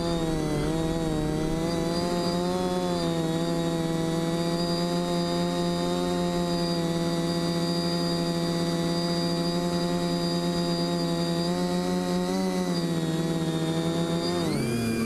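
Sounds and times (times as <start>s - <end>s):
drone propellers droning: 0.0s - 15.0s.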